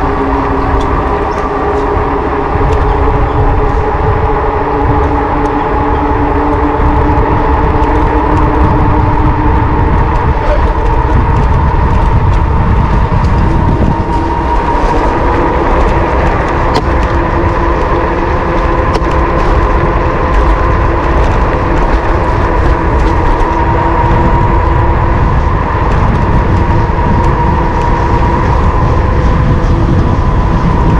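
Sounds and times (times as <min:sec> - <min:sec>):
electric motor whine: 0:00.0 - 0:30.9
wind rumbling on microphone: 0:00.0 - 0:30.9.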